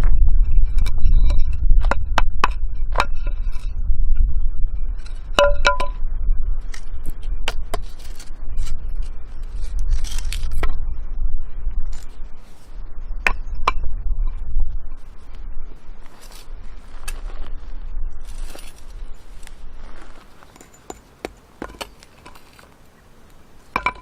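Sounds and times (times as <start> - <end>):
low rumble: 0.0 - 20.6.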